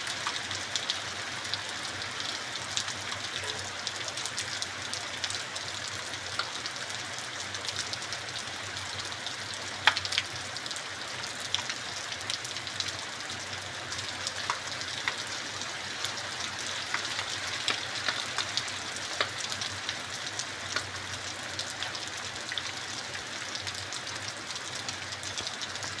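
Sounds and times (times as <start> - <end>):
heavy rain on hard surface: 0.0 - 26.0.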